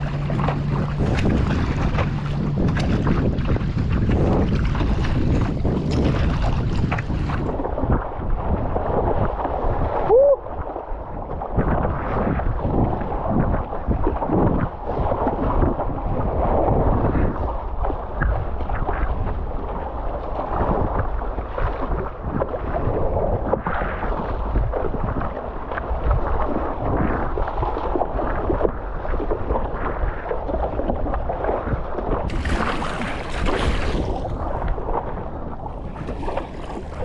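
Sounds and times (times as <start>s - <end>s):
water sloshing around paddleboard: 0.0s - 37.0s
wind buffeting microphone: 0.0s - 37.0s.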